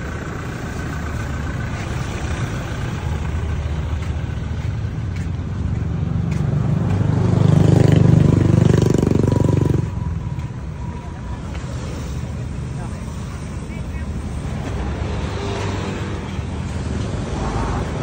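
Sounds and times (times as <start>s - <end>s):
passing vehicle engine: 0.0s - 18.0s
street traffic: 0.0s - 18.0s.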